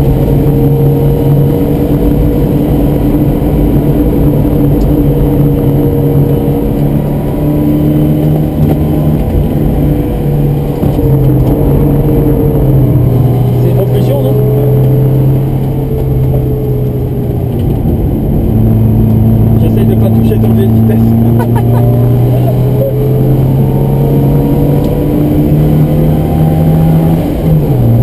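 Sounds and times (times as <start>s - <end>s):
car engine running hard: 0.0s - 28.0s.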